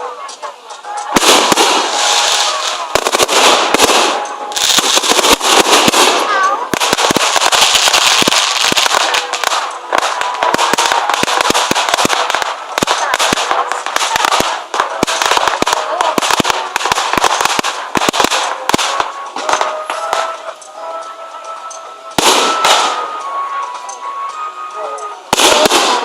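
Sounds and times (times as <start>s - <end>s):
fireworks banging: 0.0s - 26.0s
fireworks crackling: 0.0s - 26.0s.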